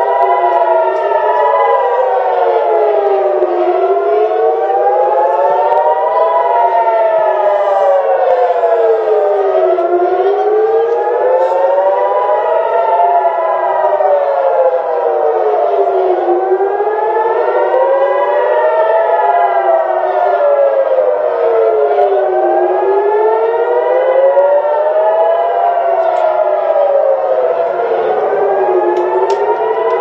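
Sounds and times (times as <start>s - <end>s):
air-raid sirens wailing: 0.0s - 30.0s.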